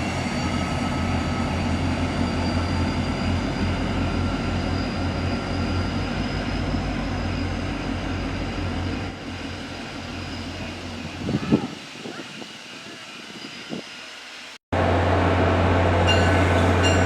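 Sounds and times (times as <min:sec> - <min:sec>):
high whine of wheels on rail: 0:00.0 - 0:17.0
train passing rumble: 0:00.0 - 0:17.0.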